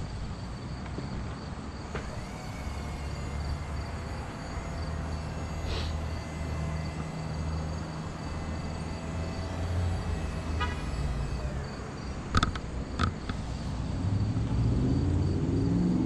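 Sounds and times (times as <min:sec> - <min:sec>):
power unit droning: 0:00.0 - 0:16.0.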